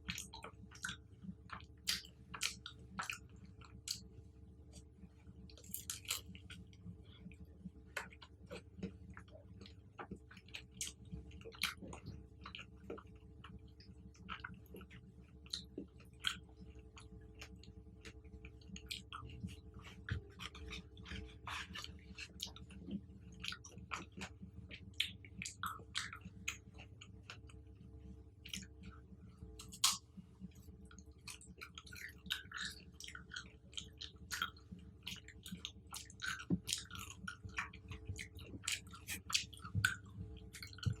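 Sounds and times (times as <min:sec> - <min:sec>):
steady low hum: 0:00.0 - 0:41.0
wet chewing clicks and smacks: 0:00.0 - 0:41.0.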